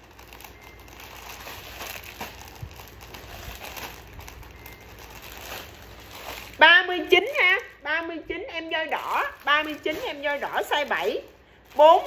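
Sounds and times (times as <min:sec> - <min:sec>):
clothing and wrapping rustling: 0:00.0 - 0:12.0.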